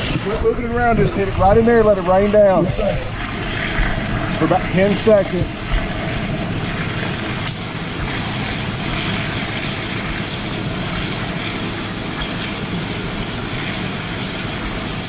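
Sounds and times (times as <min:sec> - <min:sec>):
engine running: 0:00.0 - 0:15.0
fire hose water spraying: 0:00.0 - 0:15.0.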